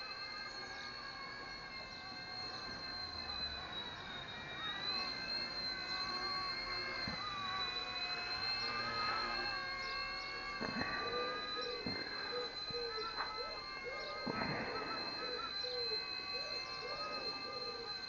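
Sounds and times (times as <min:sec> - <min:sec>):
small helicopter motor whine: 0:00.0 - 0:18.0.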